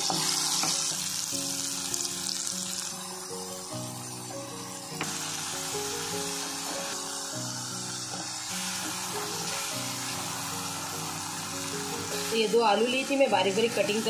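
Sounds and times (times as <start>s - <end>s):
background music with held notes: 0.0s - 14.0s
onions sizzling in hot oil: 0.0s - 14.0s.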